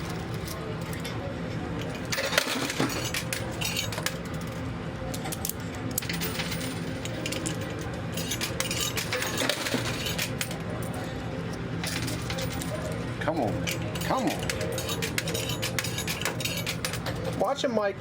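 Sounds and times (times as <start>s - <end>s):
coins clinking and clattering: 0.0s - 1.2s, 1.8s - 17.5s.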